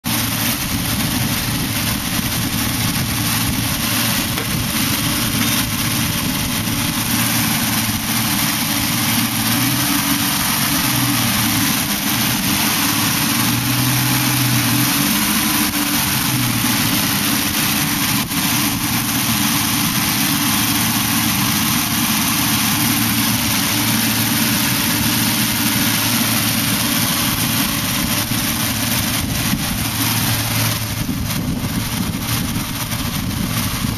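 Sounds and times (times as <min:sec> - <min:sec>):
old car engine running: 0:00.0 - 0:33.9.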